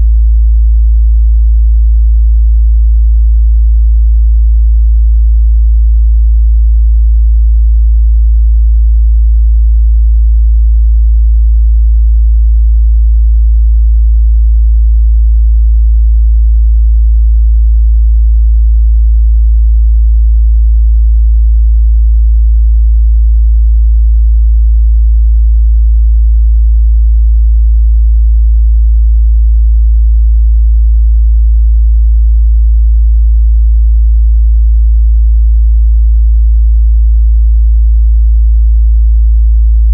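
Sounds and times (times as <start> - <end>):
low bass sine test tone: 0.0 - 39.9.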